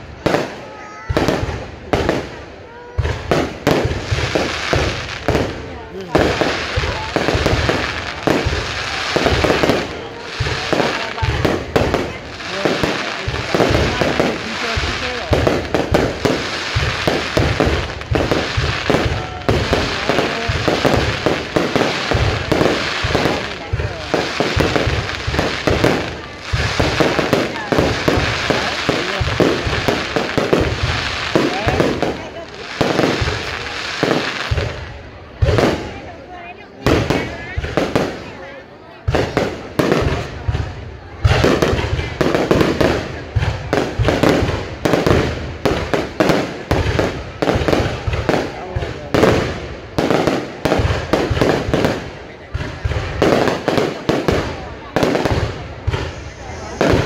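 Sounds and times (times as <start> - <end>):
fireworks bangs and crackle: 0.0 - 57.0.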